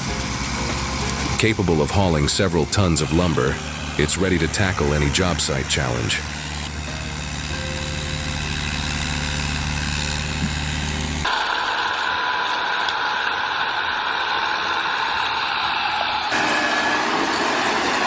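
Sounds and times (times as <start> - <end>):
heavy machine engine humming: 0.0 - 18.0
higher-pitched machine noise: 0.0 - 18.0.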